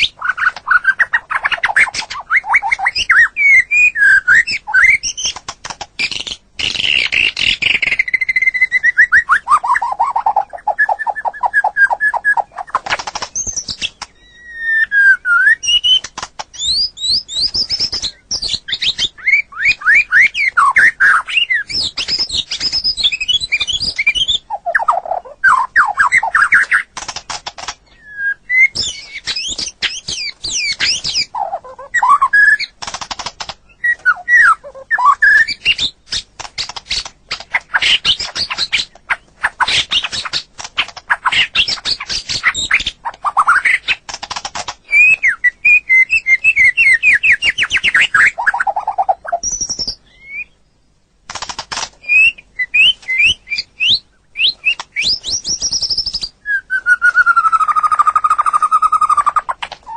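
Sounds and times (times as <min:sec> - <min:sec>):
bird singing whistled song: 0:00.0 - 0:05.4, 0:06.0 - 0:26.9, 0:27.9 - 0:32.8, 0:33.7 - 0:40.4, 0:41.1 - 0:44.0, 0:44.8 - 0:50.7, 0:52.0 - 0:59.9.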